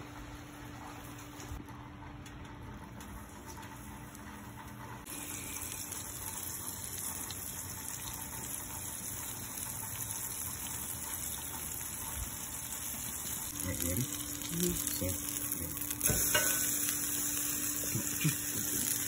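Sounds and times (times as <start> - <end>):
fish sizzling on griddle: 3.1 - 19.0.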